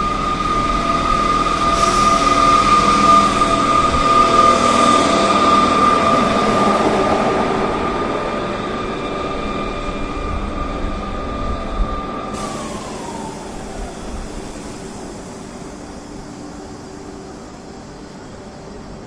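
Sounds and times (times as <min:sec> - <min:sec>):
electric train motor whine: 0:00.0 - 0:19.0
wheel and track rumble: 0:00.0 - 0:19.0.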